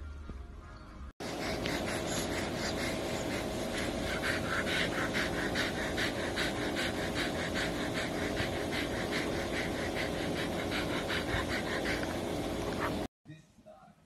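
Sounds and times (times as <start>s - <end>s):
dog panting rapidly: 1.2s - 13.1s.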